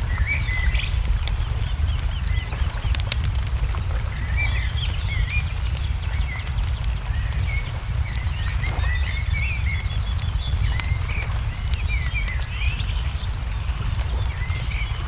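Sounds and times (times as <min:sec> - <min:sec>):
bird chirps: 0:00.0 - 0:15.0
low rumble: 0:00.0 - 0:15.0
wood fire crackling: 0:00.0 - 0:15.0.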